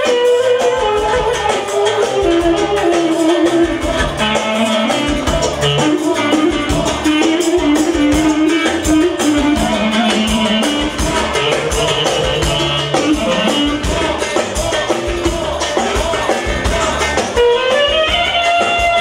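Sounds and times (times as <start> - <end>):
upbeat dance music: 1.2 - 19.0.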